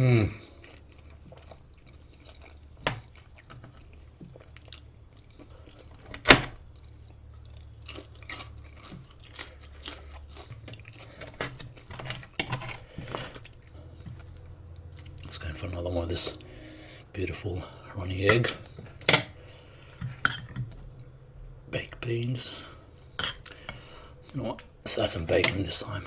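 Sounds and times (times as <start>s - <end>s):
person chewing food: 0.0s - 21.6s, 22.6s - 25.0s.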